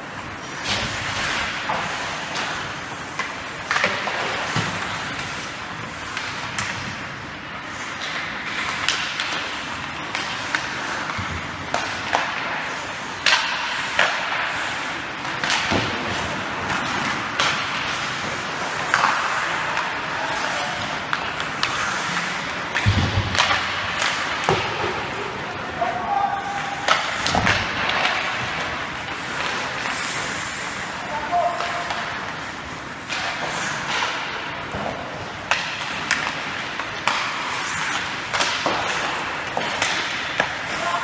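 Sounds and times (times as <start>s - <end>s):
skates scraping ice: 0.0s - 41.0s
sticks hitting puck: 0.0s - 41.0s.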